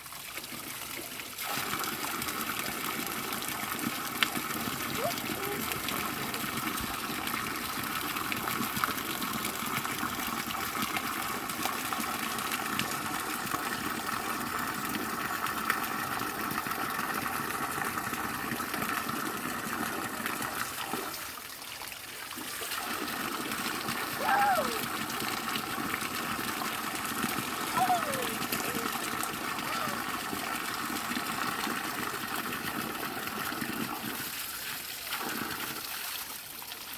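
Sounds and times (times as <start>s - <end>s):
waterfall pouring: 0.0s - 36.9s.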